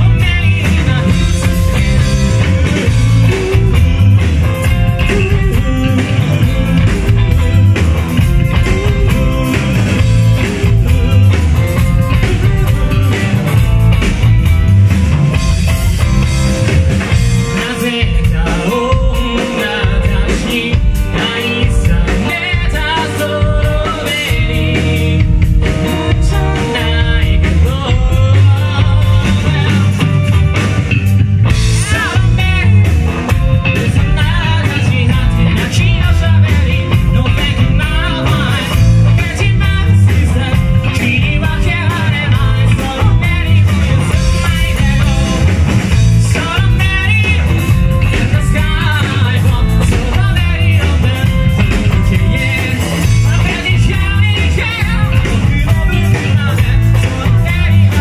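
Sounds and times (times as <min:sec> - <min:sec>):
man singing: 0:00.0 - 0:14.3, 0:16.5 - 0:30.4, 0:31.5 - 0:58.0
drum kit beat: 0:00.0 - 0:58.0
electric bass: 0:00.0 - 0:58.0
electric guitar: 0:00.0 - 0:58.0.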